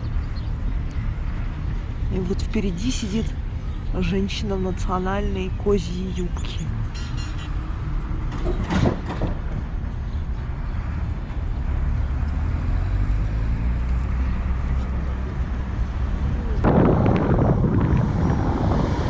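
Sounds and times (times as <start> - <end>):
road vehicle engine and road noise: 0.0 - 19.0.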